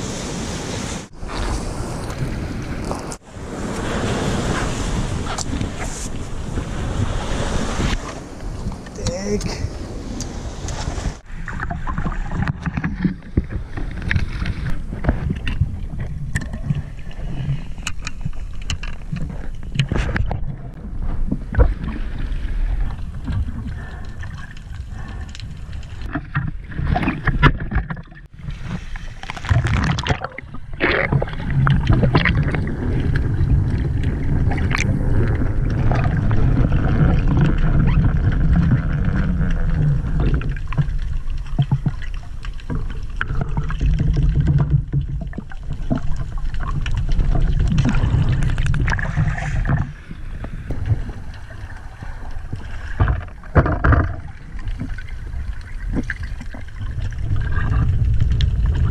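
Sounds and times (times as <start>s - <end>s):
underwater rumble of moving water: 0.0s - 58.9s.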